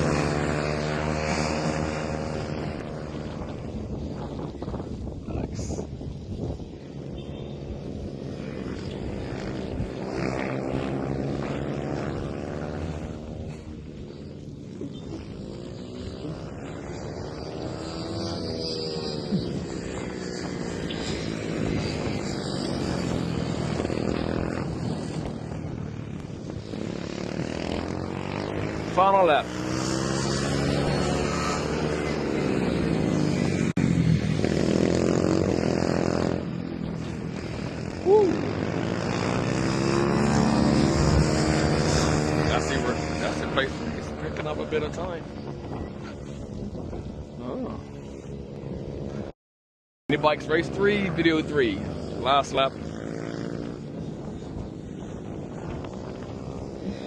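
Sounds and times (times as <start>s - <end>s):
mini-bike engine revving hard: 0.0s - 49.3s, 50.1s - 57.0s.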